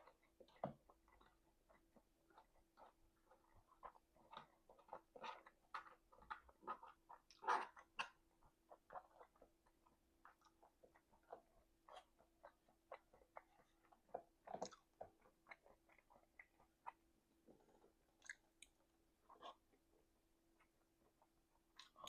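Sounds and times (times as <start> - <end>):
open-mouthed chewing: 0.0 - 22.0.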